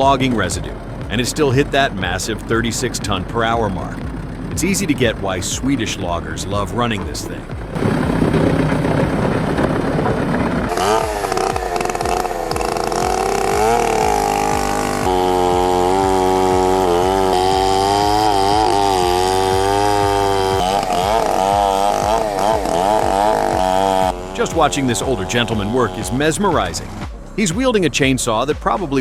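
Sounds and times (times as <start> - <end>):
chainsaw cutting wood: 0.0 - 27.4.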